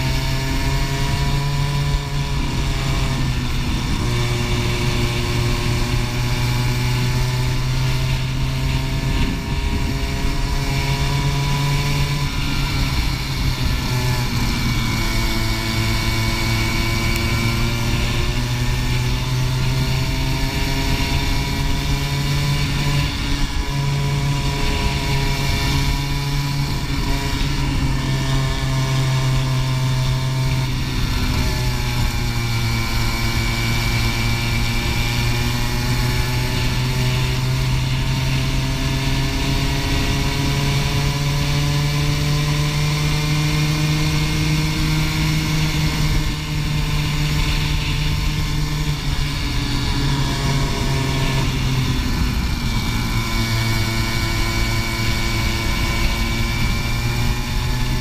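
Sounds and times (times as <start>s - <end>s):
kart engine at speed: 0.0s - 58.0s
rushing wind noise: 0.0s - 58.0s.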